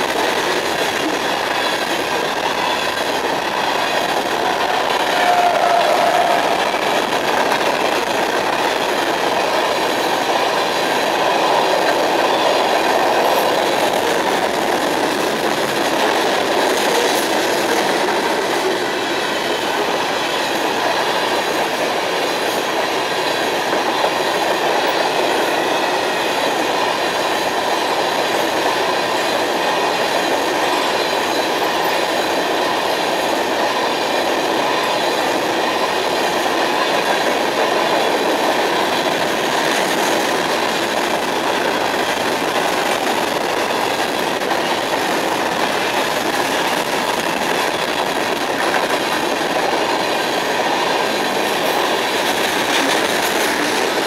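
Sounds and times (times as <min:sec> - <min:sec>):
train wheels running on rails: 0:00.0 - 0:54.0.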